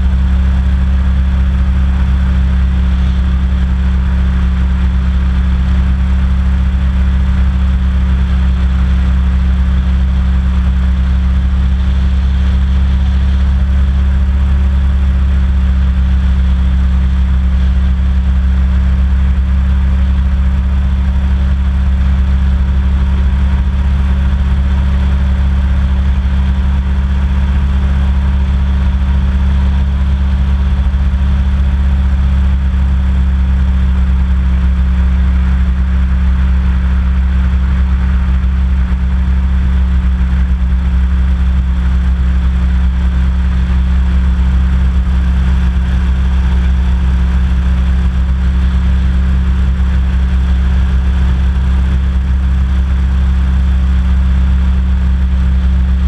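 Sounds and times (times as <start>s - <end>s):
hovercraft engine drone: 0.0s - 56.0s.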